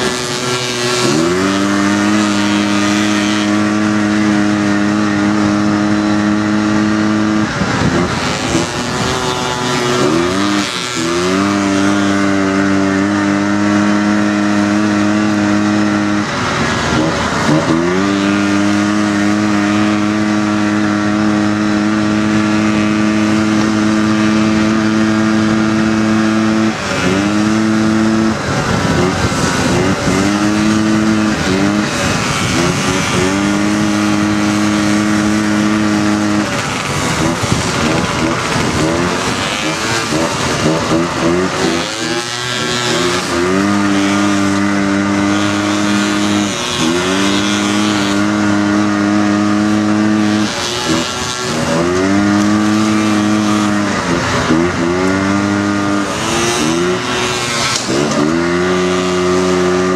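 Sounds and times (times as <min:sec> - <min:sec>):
dune buggy engine revving: 0:00.0 - 0:59.9
tyre noise: 0:00.0 - 0:59.9
wind noise: 0:00.0 - 0:59.9.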